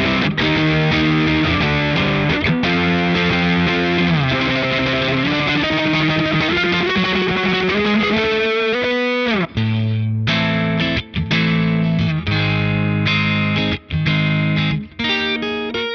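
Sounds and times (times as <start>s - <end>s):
overdriven electric guitar chords: 0.0s - 15.9s.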